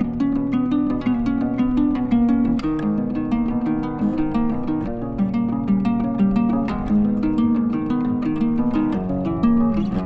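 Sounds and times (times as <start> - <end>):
plucked-string melody: 0.0 - 10.0.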